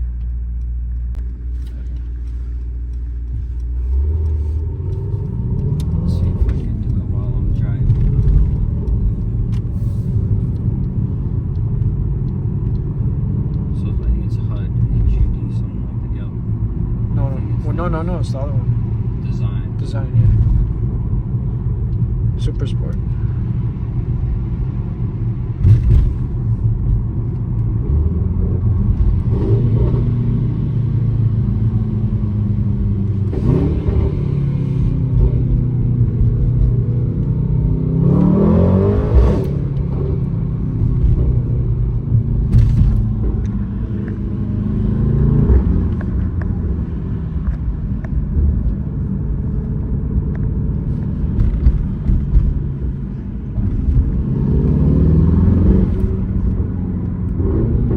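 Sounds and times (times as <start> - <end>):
exhaust cracks: 0.0 - 57.9
car engine revving: 1.1 - 57.9.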